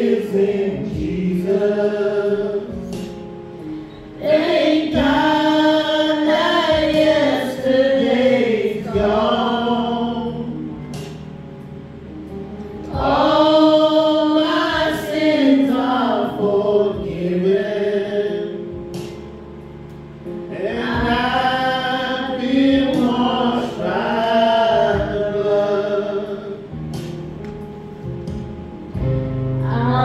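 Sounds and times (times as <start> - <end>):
instrumental backing: 0.0 - 30.0
voices singing worship music: 0.0 - 30.0.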